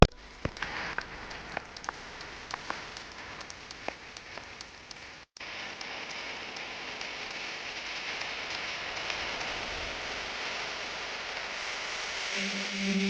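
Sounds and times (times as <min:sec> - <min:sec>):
raindrops pattering close by: 0:00.0 - 0:13.0
heavy rain hissing: 0:00.2 - 0:13.0.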